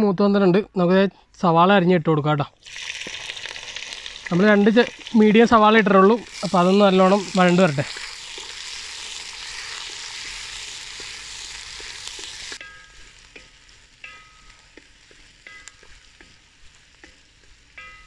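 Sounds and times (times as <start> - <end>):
onions sizzling in oil: 2.6 - 18.0.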